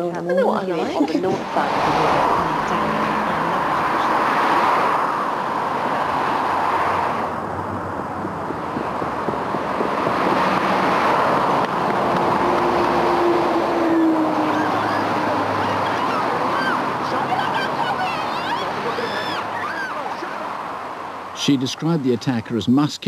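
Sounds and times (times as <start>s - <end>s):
traffic rushing past: 0.0s - 23.0s.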